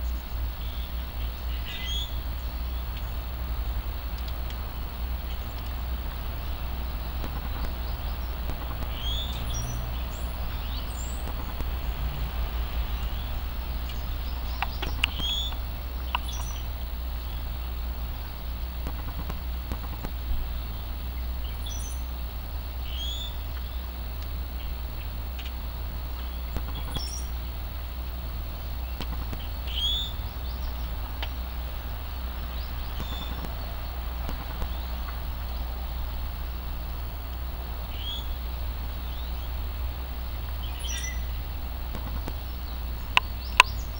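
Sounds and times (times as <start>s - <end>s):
small birds chirping: 0.0s - 43.9s
steady low rumble: 0.0s - 43.9s.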